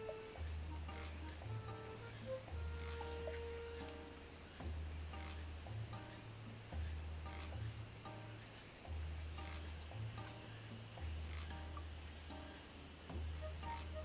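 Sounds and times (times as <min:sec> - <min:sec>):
crickets chirping: 0:00.0 - 0:14.0
quiet background music: 0:00.0 - 0:14.0.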